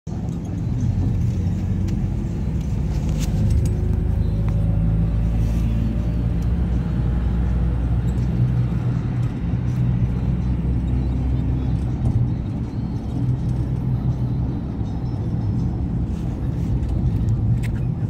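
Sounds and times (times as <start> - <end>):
road vehicle rumble: 0.1 - 18.0.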